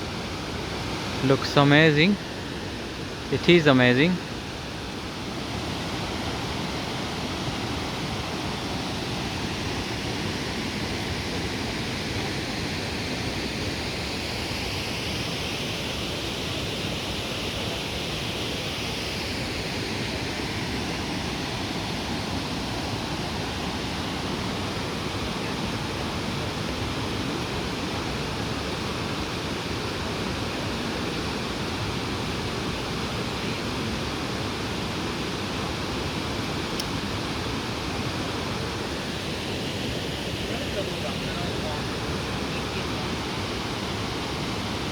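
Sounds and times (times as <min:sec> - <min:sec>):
waterfall roaring over rocks: 0:00.0 - 0:44.9.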